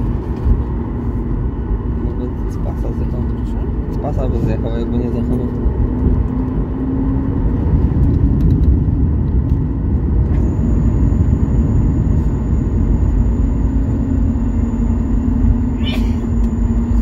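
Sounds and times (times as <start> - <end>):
airplane engine noise: 0.0 - 17.0.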